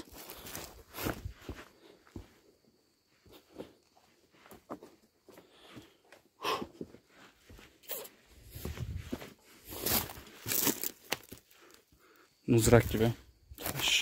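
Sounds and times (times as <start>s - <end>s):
footsteps on stony ground: 0.0s - 11.8s.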